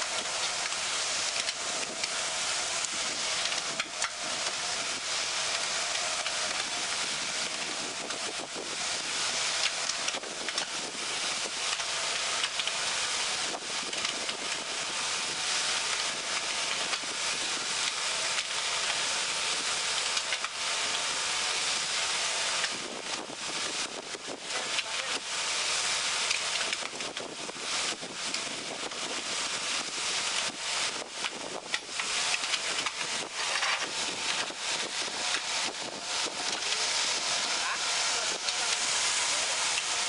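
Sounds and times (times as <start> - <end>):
mixer paddles churning sand: 0.0 - 40.0.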